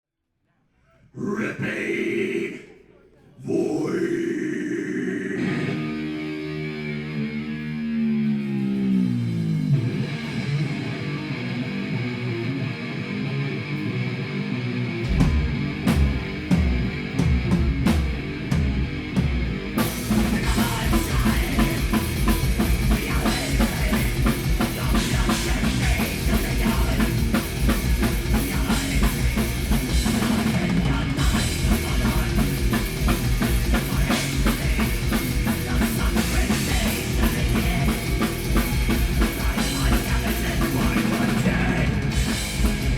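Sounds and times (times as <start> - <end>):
distorted electric guitar: 3.5 - 42.9
rock band playing: 5.2 - 42.9.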